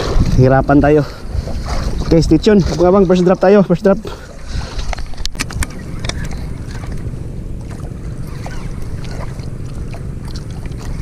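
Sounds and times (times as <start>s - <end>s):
water moving around boat: 0.0s - 11.0s
wind on microphone: 0.0s - 11.0s.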